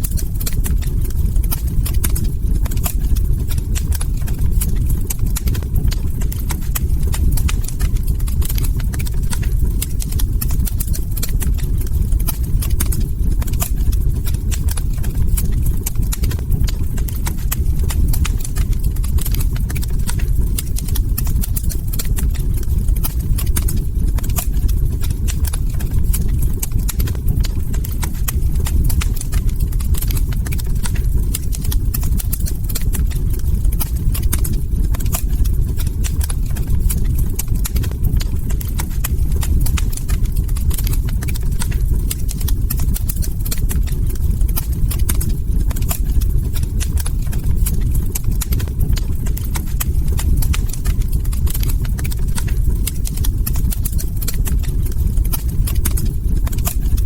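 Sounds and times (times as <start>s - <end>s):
low rumble of flames: 0.0s - 57.0s
wood crackling and popping: 0.0s - 57.0s.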